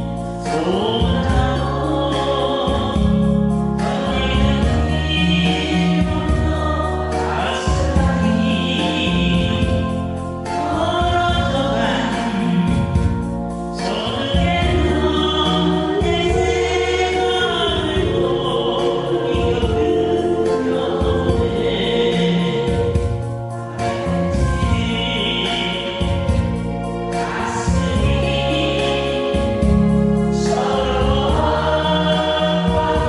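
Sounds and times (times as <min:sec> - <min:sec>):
people singing together: 0:00.0 - 0:33.0
recorded backing music: 0:00.0 - 0:33.0.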